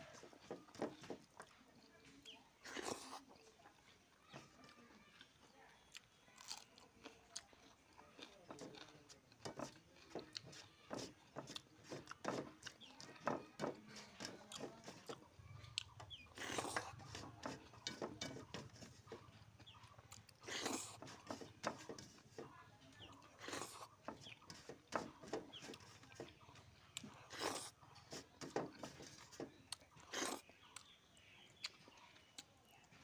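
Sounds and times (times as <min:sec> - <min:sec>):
chewing: 0:00.0 - 0:33.0
fingers scooping food on steel plate: 0:00.1 - 0:33.0.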